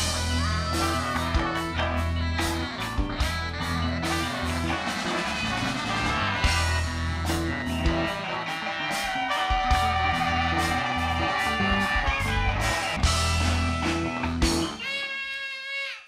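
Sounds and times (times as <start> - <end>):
double bass: 0.0 - 8.2, 9.7 - 14.7
electric guitar: 0.0 - 16.0
keyboards: 0.0 - 16.0.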